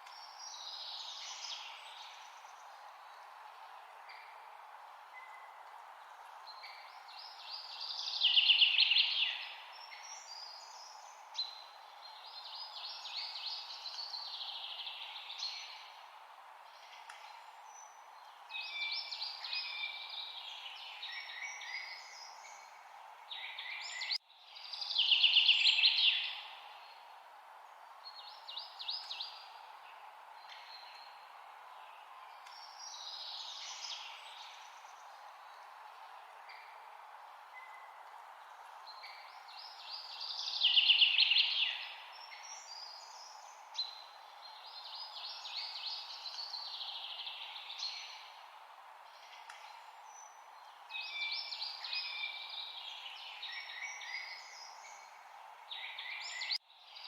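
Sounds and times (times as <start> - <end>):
background hiss: 0.0 - 57.0
songbird singing: 0.0 - 57.0.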